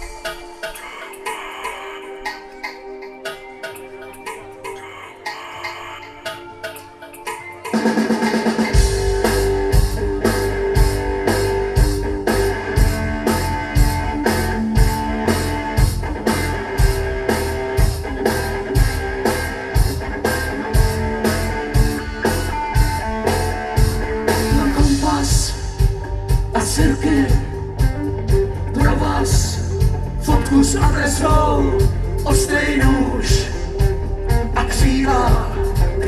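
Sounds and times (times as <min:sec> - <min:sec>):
rock band playing: 0:00.0 - 0:04.7, 0:06.0 - 0:36.0
drums and cymbals beat: 0:00.0 - 0:36.0
electric guitar: 0:06.3 - 0:36.0.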